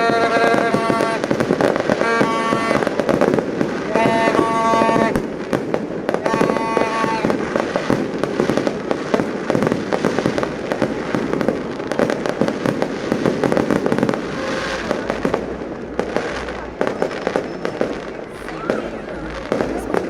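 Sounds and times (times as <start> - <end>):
fireworks bangs and crackling pops: 0.0 - 20.0.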